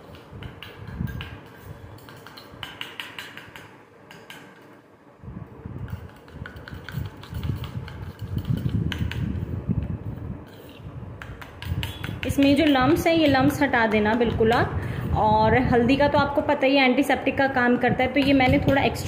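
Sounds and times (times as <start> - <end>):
spoon stirring in a metal bowl: 0.0 - 4.8, 5.8 - 15.7, 17.9 - 19.0.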